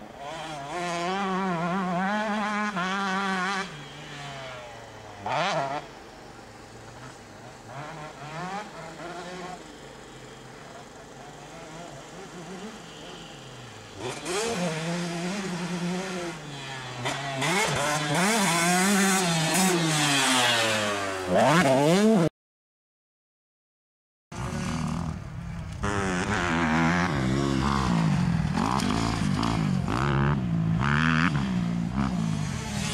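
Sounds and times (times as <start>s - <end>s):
dirt bike engines revving: 0.0s - 22.3s, 24.4s - 32.9s.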